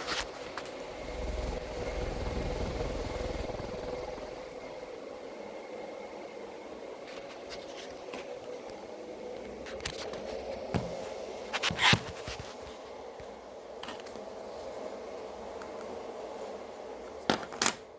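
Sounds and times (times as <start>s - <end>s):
ceiling fan motor humming: 0.0s - 17.9s.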